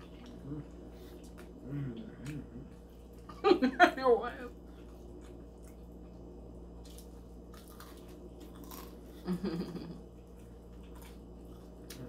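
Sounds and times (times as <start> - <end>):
chewing and crunching: 0.0 - 3.4, 4.5 - 12.0
closed-mouth hum: 0.0 - 12.0.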